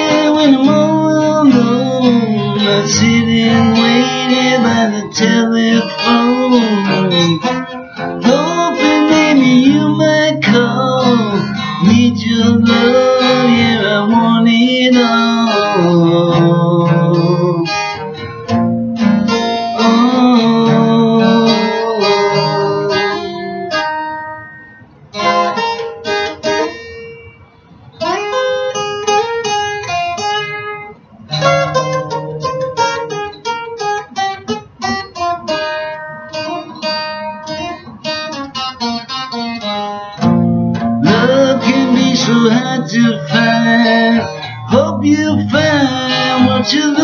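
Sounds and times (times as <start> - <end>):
acoustic guitar: 0.0 - 47.0.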